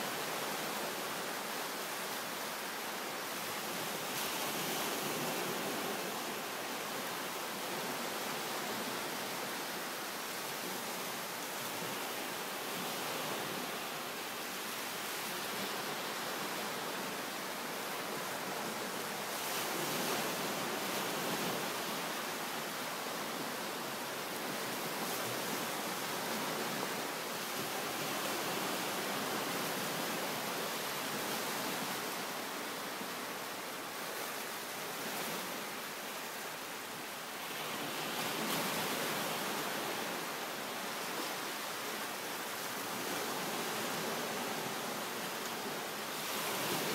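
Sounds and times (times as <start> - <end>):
small waves breaking on beach: 0.0 - 46.9.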